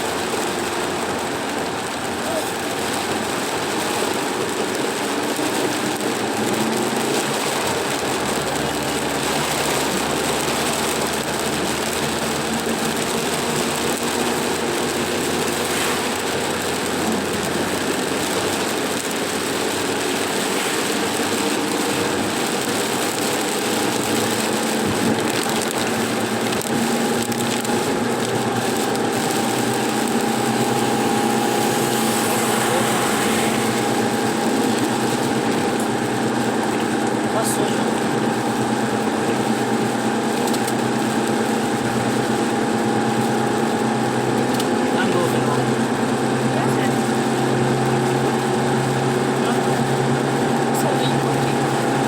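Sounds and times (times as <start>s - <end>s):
car engine: 0.0s - 52.0s
road noise: 0.0s - 52.0s.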